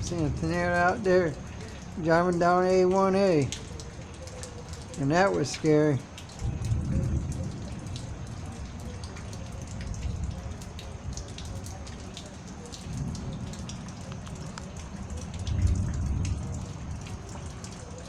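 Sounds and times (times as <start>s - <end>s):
low rushing rain noise: 0.0s - 18.0s
rain drops ticking: 0.0s - 18.0s.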